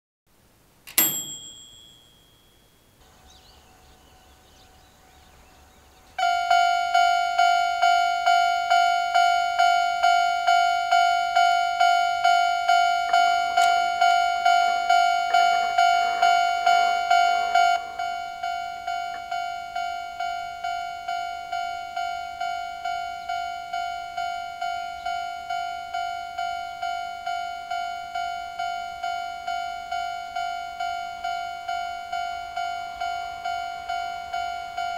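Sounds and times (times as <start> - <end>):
level crossing alarm bell dinging: 0.9 - 3.0, 6.2 - 34.9.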